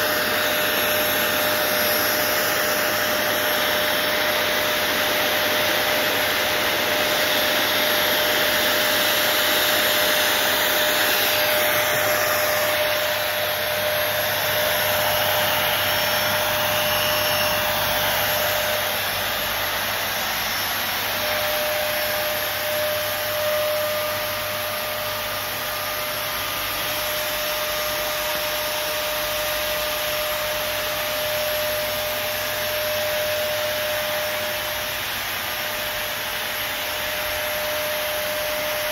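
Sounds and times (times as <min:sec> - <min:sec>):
blower motor rushing air: 0:00.0 - 0:38.9.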